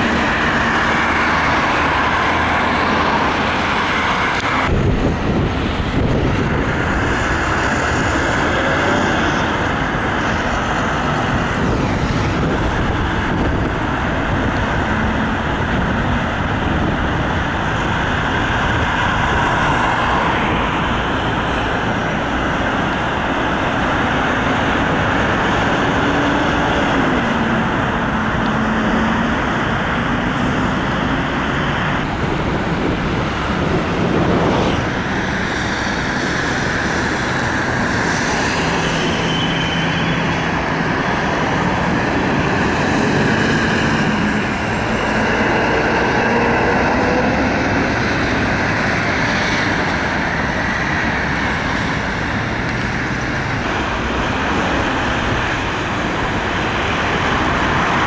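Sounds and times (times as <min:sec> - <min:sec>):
heavy road traffic: 0:00.0 - 0:58.0.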